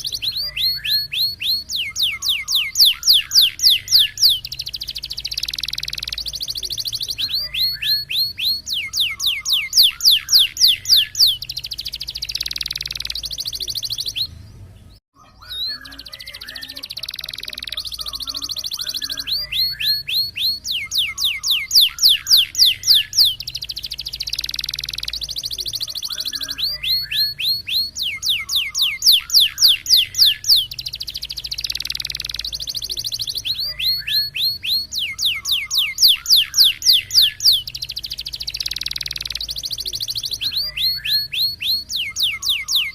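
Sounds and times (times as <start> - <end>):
canary singing: 0.0 - 42.9.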